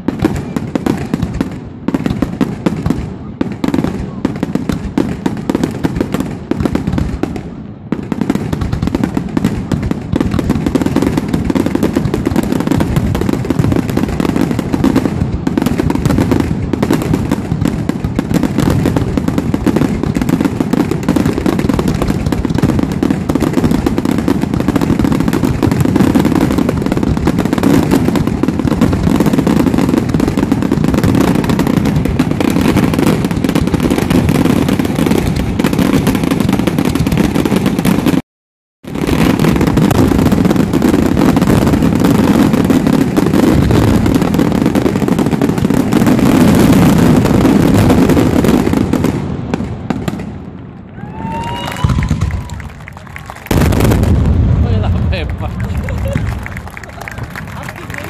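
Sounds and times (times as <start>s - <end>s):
fireworks bangs and crackles: 0.0s - 38.2s, 38.8s - 58.0s.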